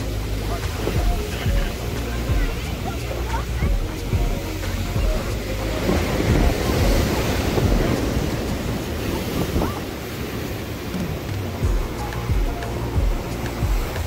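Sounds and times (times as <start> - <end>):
ocean surf breaking on rocks: 0.0 - 14.0
wind buffeting microphone: 0.0 - 14.0.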